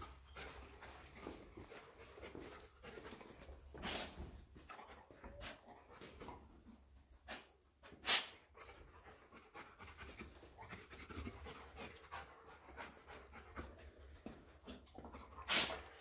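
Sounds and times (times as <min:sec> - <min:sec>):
dog panting: 0:00.0 - 0:07.5, 0:08.6 - 0:16.0.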